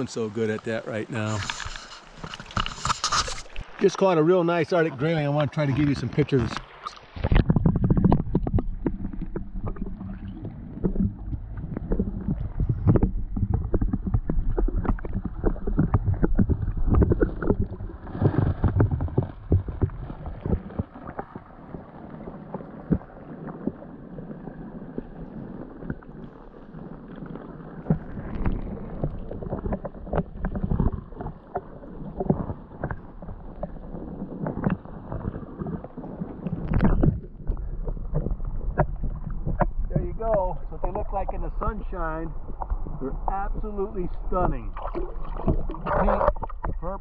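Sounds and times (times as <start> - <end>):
muffled underwater water movement: 0.0 - 47.0.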